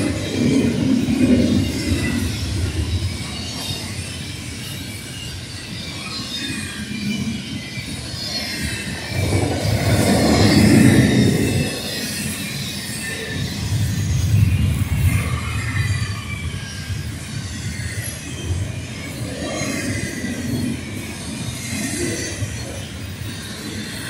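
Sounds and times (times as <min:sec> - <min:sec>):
high wheel squeal: 0:00.0 - 0:24.0
train wheels rumbling on rail: 0:00.0 - 0:24.0.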